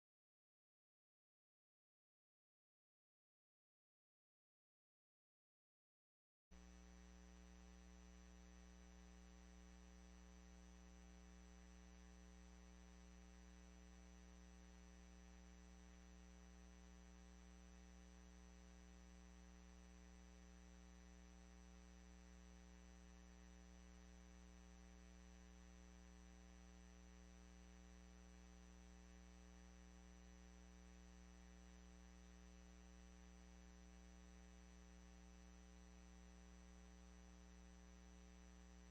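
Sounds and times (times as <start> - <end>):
faint electrical hum: 6.6 - 38.9.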